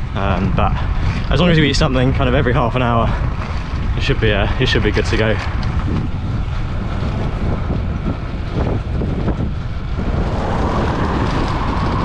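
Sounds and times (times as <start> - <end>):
tyre road noise: 0.0 - 12.0
wind rumbling on microphone: 0.0 - 12.0.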